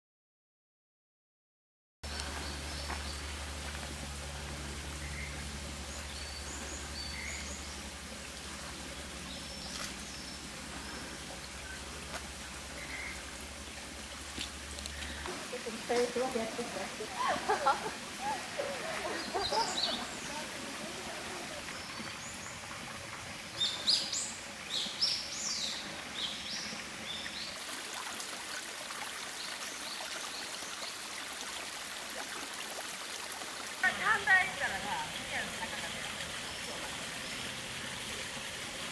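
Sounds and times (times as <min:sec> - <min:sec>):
outdoor background hiss: 0:02.1 - 0:38.9.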